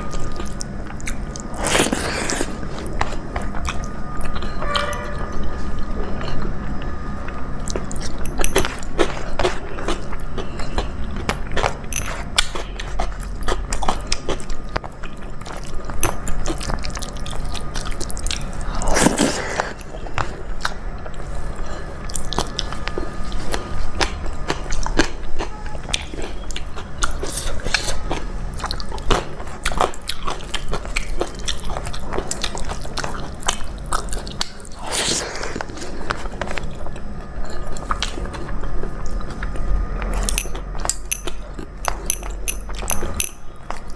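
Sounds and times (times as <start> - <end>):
chewing and wet mouth sounds: 0.0 - 43.9
louder eating noises: 0.0 - 43.9.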